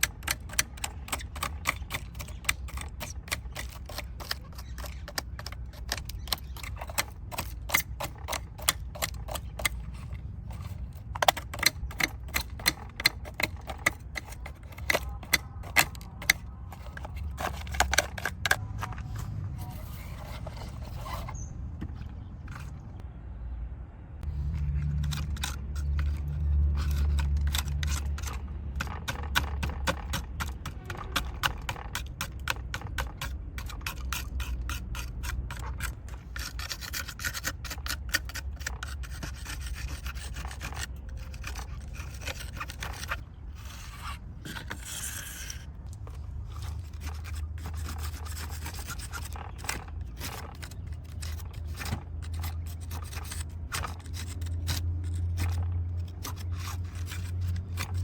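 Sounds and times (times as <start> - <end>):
scraping strokes on model truck: 0.0 - 23.0, 24.2 - 58.0.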